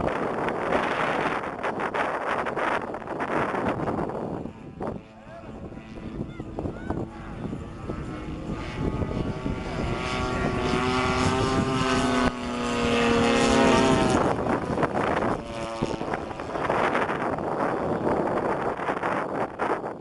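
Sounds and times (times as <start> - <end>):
model airplane engine flying past: 0.0 - 20.0.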